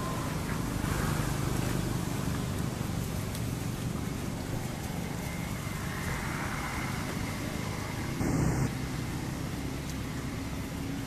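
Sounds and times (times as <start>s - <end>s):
low outdoor rumble with hiss: 0.0s - 11.0s.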